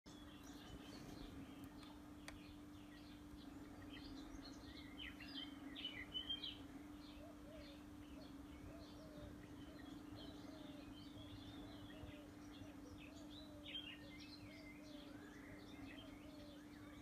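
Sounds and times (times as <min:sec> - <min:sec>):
birds chirping and singing: 0:00.1 - 0:17.0
steady low hum: 0:00.1 - 0:17.0.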